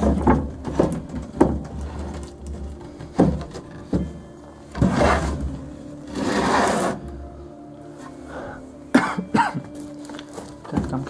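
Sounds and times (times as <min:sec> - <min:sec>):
scraping and rustling: 0:00.0 - 0:08.3, 0:09.7 - 0:11.0.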